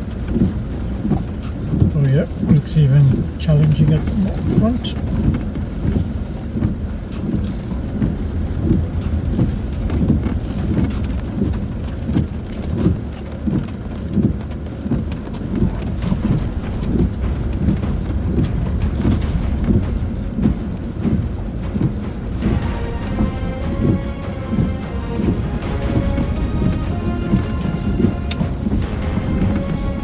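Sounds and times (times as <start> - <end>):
low thuds and jolts: 0.0 - 30.0
rain pattering on bodywork: 0.0 - 30.0
vehicle rumbling over rocky track: 0.0 - 30.0.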